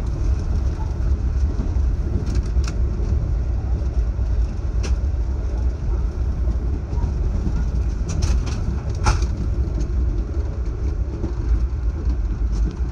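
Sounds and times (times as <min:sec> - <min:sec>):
train rumbling at speed: 0:00.0 - 0:12.9.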